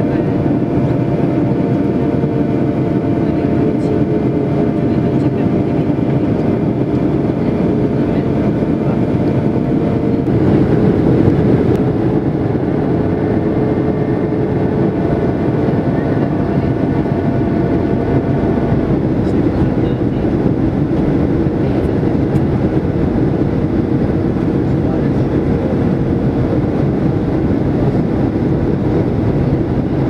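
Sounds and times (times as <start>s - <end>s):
airflow rushing: 0.0s - 30.0s
jet engines humming: 0.0s - 30.0s.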